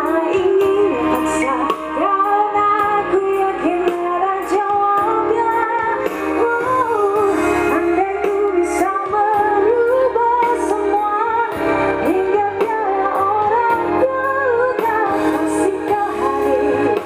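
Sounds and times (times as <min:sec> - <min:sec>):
instrumental accompaniment: 0:00.0 - 0:17.0
woman singing: 0:00.0 - 0:17.0.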